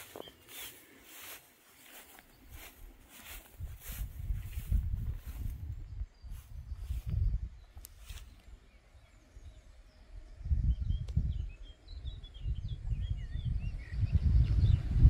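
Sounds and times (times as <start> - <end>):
songbird chirping: 0.0 - 15.0
wind rumbling on microphone: 2.0 - 15.0.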